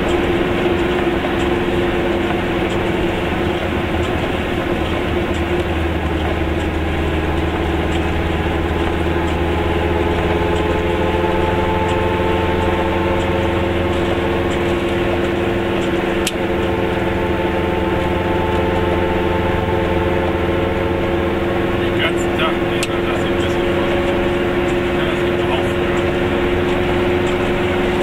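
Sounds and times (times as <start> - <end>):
small car engine running: 0.0 - 28.0.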